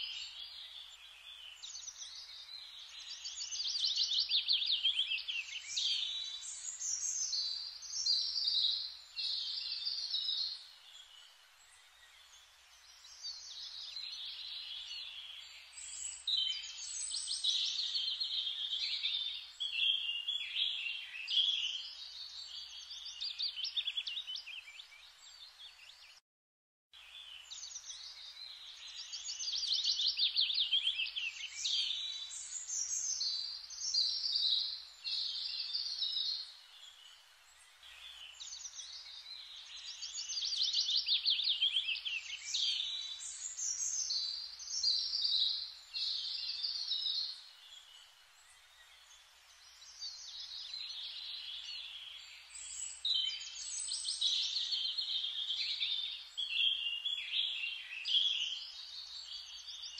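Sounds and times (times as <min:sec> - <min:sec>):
small birds chirping: 0:00.0 - 0:26.2, 0:27.0 - 0:59.9.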